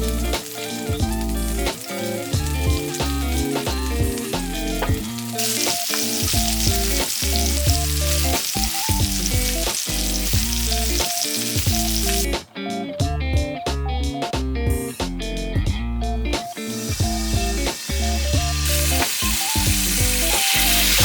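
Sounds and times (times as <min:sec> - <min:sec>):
meat sizzling in a hot pan: 0:00.0 - 0:12.3, 0:16.4 - 0:21.0
background music with bass: 0:00.0 - 0:21.0.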